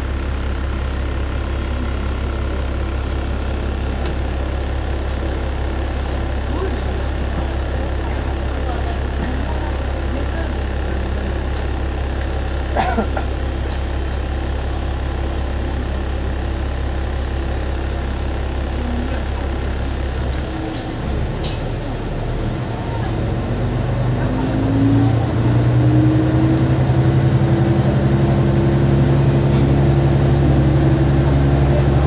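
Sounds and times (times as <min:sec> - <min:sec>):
diesel railcar engine: 0:00.0 - 0:32.0.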